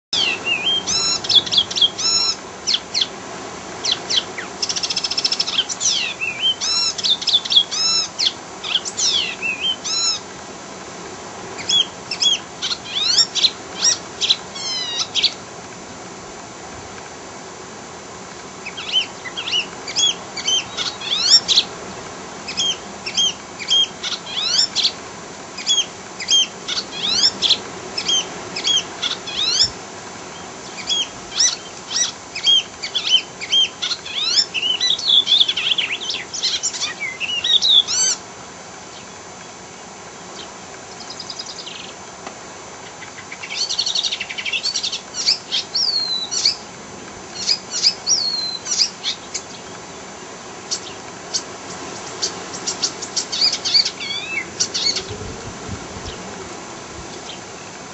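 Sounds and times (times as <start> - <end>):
warbler singing: 0.2 - 3.2, 3.8 - 10.2, 11.6 - 15.4, 18.6 - 21.7, 22.3 - 25.0, 25.6 - 38.2, 38.9 - 42.0, 42.8 - 46.7, 47.3 - 57.8.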